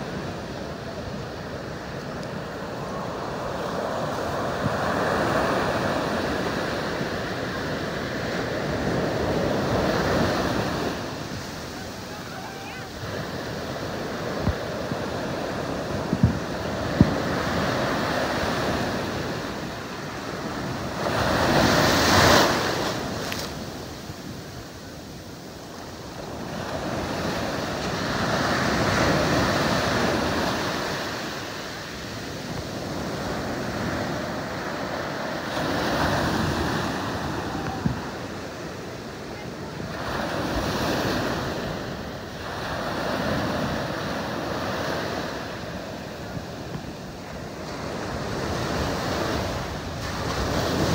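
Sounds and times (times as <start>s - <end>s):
surf washing up sand: 0.0s - 50.9s
wind buffeting microphone: 0.0s - 50.9s.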